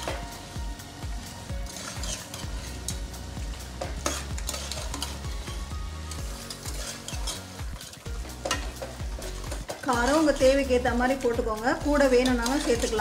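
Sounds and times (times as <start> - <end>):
food sizzling: 0.0 - 13.0
metal spoon scraping a pot: 1.6 - 13.0.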